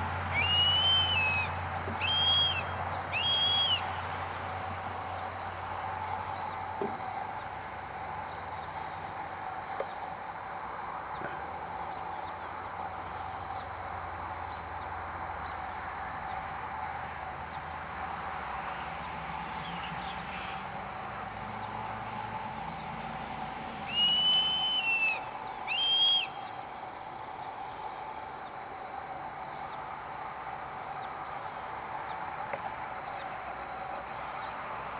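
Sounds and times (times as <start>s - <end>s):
steady outdoor hum: 0.0s - 34.9s.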